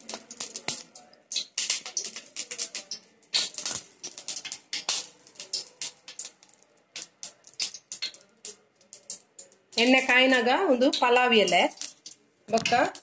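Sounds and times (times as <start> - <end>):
oil crackling and spitting: 0.0 - 10.1, 10.9 - 13.0.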